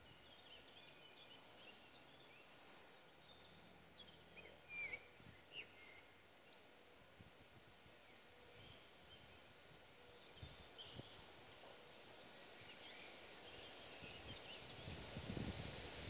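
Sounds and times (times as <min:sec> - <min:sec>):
soft wind hiss: 0:00.0 - 0:16.0.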